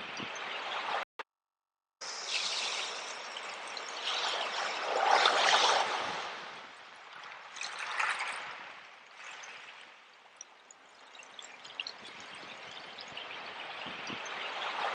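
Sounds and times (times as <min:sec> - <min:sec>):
sea waves washing in: 0:00.0 - 0:01.0, 0:02.0 - 0:10.1, 0:11.8 - 0:14.9.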